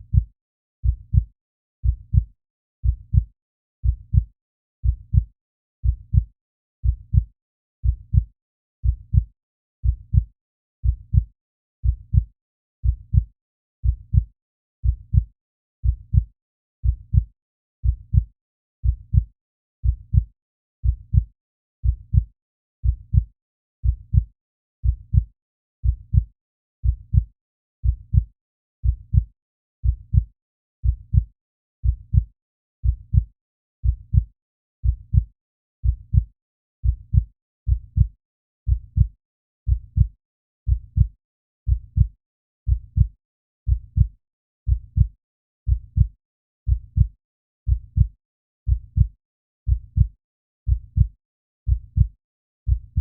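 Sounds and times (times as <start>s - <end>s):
heartbeat double thumps: 0.0s - 38.1s, 38.7s - 39.1s, 39.7s - 40.1s, 40.7s - 41.1s, 41.7s - 42.1s, 42.7s - 43.1s, 43.7s - 44.1s, 44.7s - 45.1s, 45.7s - 46.1s, 46.7s - 47.1s, 47.7s - 48.1s, 48.7s - 49.1s, 49.7s - 50.1s, 50.7s - 51.1s, 51.7s - 52.1s, 52.7s - 53.0s.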